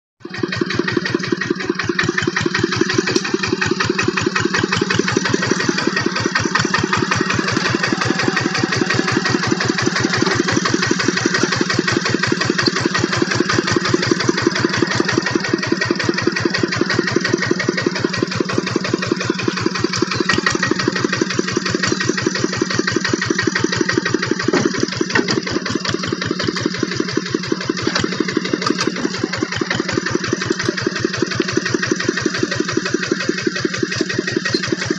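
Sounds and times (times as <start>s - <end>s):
diesel engine chugging: 0.2s - 34.9s.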